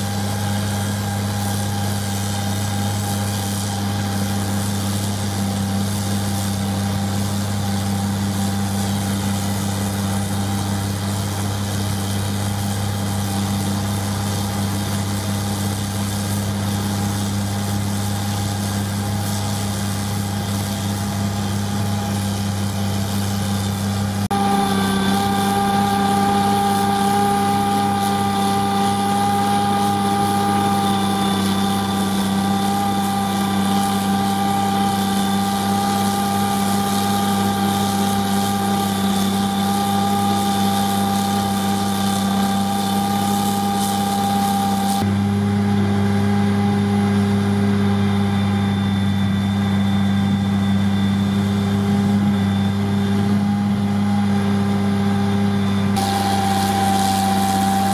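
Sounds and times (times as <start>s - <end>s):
high steady whine: 0.0s - 57.9s
snowblower engine drone: 0.0s - 57.9s.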